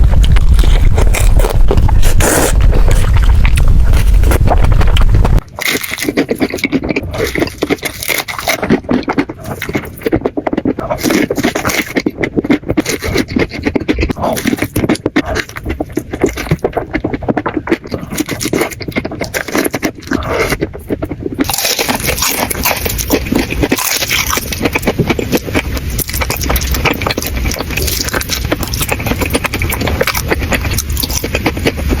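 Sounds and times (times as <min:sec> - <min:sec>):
chewing crunchy fried chicken: 0:00.0 - 0:32.0.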